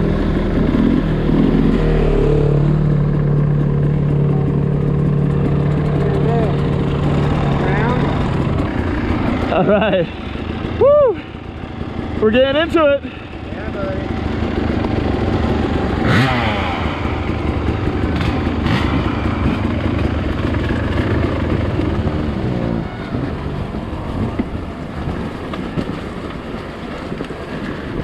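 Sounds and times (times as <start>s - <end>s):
dirt bike engine revving: 0.0s - 10.8s, 11.5s - 24.2s.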